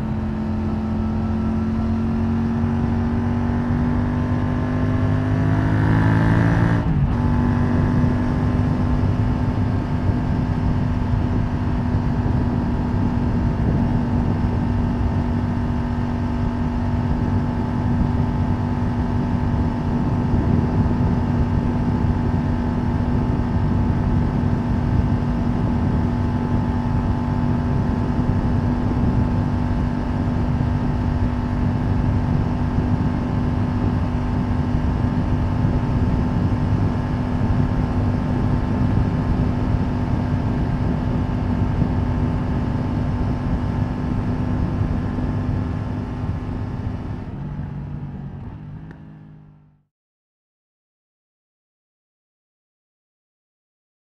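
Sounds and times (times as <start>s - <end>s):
wind and road noise: 0.0s - 49.8s
motorcycle engine at speed: 0.0s - 49.9s.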